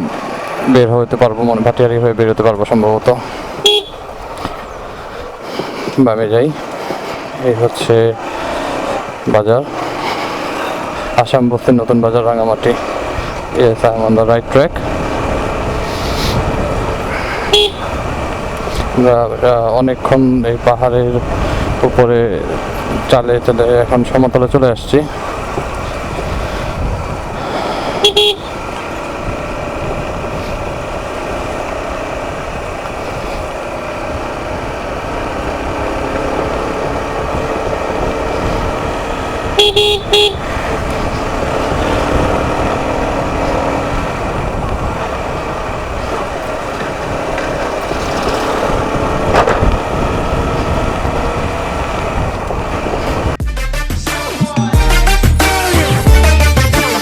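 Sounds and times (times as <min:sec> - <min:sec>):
motorcycle engine: 0:00.0 - 0:53.4
horn honking: 0:01.8 - 0:06.0, 0:06.6 - 0:20.5, 0:22.6 - 0:53.4
wind noise: 0:06.6 - 0:53.4.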